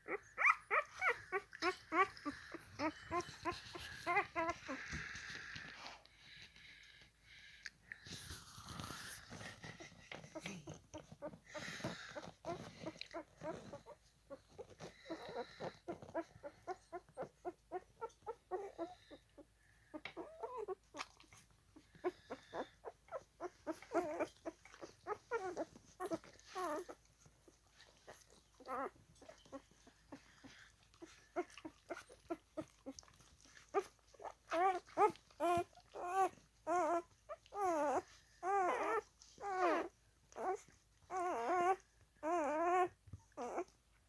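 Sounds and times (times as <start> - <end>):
puppy squeaking and whimpering: 0.0 - 5.6, 8.4 - 43.9.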